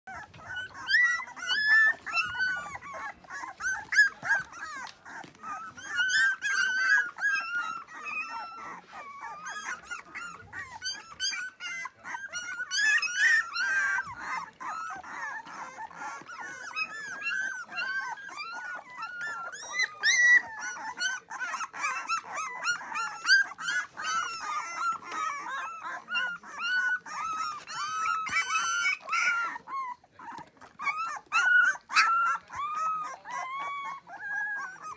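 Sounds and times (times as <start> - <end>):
puppies whining and squealing: 0.1 - 34.9.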